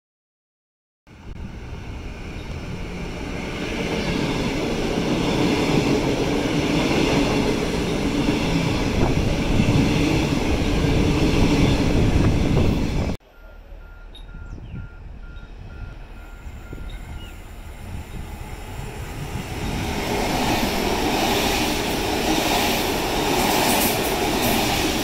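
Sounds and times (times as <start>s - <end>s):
train wheels rumbling on rail: 1.3s - 25.0s.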